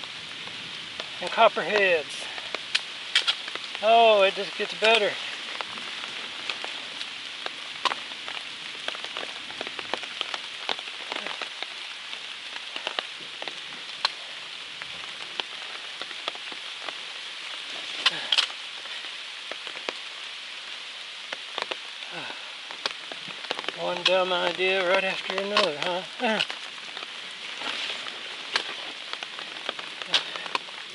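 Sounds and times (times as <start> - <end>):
raindrops ticking near microphone: 0.0 - 30.9
steady rain falling: 0.0 - 30.9.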